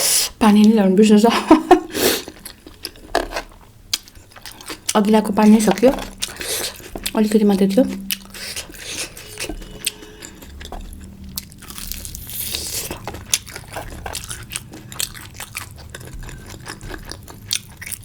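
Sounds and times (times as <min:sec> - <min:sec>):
person chewing food: 0:01.9 - 0:18.0.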